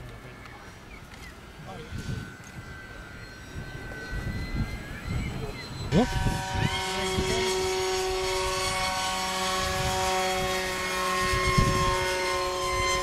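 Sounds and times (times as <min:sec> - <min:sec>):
model airplane motor whining: 0:00.0 - 0:13.0
wind buffeting microphone: 0:00.0 - 0:13.0.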